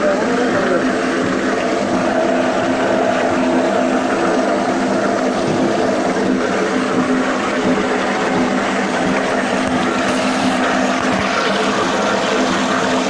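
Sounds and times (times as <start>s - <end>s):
mixer humming: 0.0s - 13.0s.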